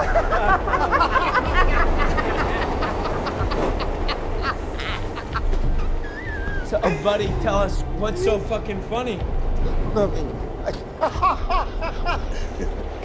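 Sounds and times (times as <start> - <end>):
men laughing and hooting: 0.0 - 8.7, 10.7 - 13.0
subway car rumble: 0.0 - 13.0.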